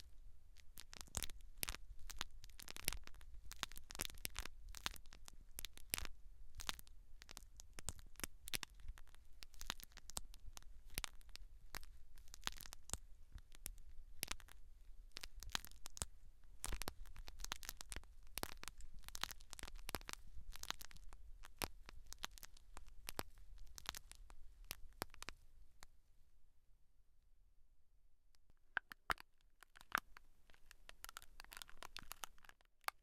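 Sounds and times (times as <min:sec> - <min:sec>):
scratching and crackling of hair: 0:00.0 - 0:25.4, 0:28.7 - 0:33.0.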